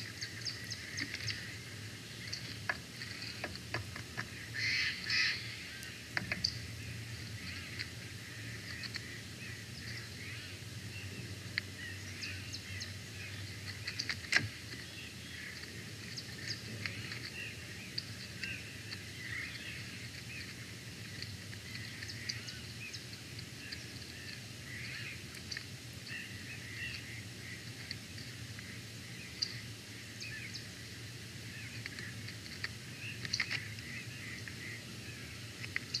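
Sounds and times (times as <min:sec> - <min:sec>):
wild birds chirping and calling: 0:00.0 - 0:36.0.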